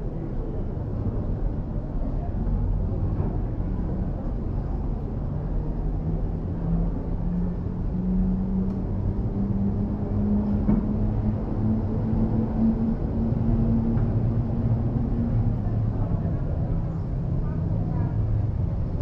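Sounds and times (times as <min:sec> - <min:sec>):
engine running with low rumble: 0:00.0 - 0:19.0.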